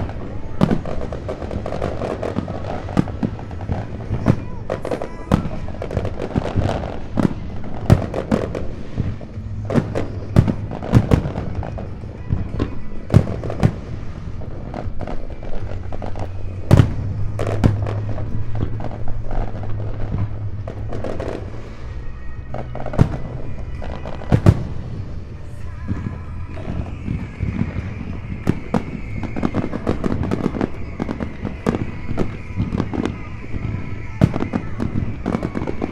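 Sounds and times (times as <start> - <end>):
background music: 0.0 - 35.9
fireworks booming: 0.0 - 35.9.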